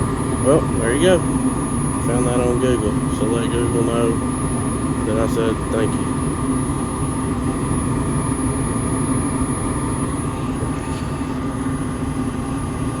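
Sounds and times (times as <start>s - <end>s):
gas furnace running: 0.0s - 13.0s.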